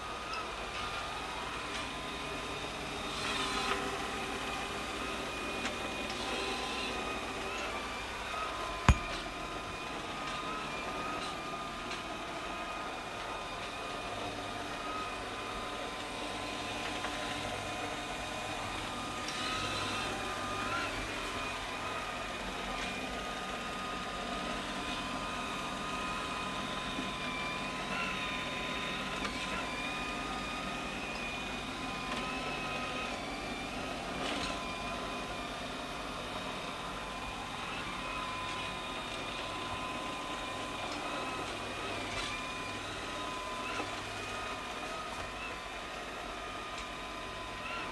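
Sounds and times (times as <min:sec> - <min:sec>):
robot vacuum whirring and whining: 0:00.0 - 0:47.9.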